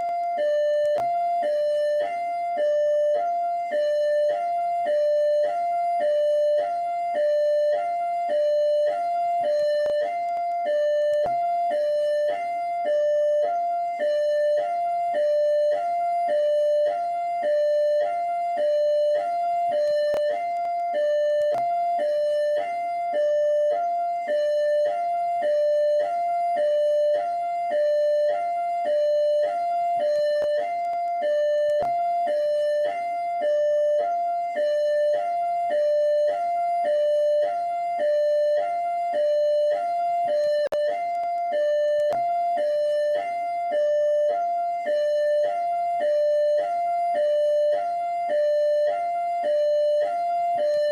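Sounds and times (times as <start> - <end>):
police siren hi-lo: 0.0 - 50.9.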